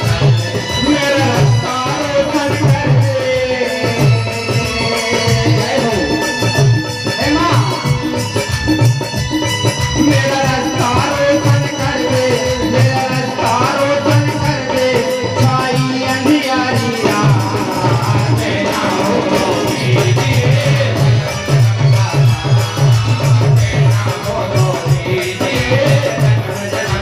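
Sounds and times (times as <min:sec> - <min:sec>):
drum beating: 0:00.0 - 0:27.0
folk music over loudspeakers: 0:00.0 - 0:27.0
sung melody: 0:00.0 - 0:27.0.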